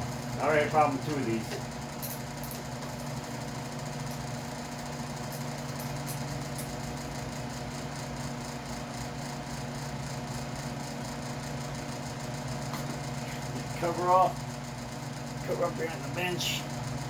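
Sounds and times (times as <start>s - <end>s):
shop fan humming: 0.0s - 17.0s.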